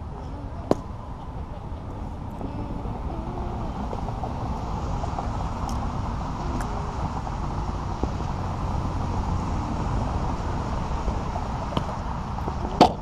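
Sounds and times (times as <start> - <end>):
faint distant voices: 0.0 - 13.0
low rumble: 0.0 - 13.0.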